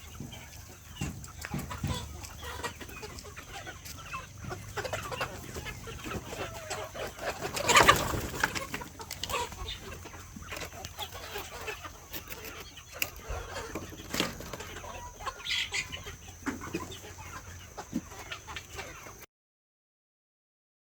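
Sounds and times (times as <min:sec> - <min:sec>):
chickens clucking: 0:00.0 - 0:19.3.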